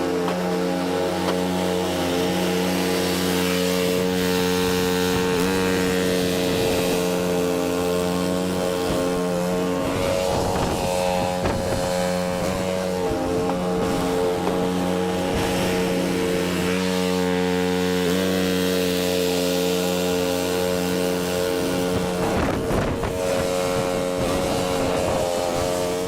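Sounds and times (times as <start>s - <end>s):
snow blower engine running: 0.0s - 26.0s.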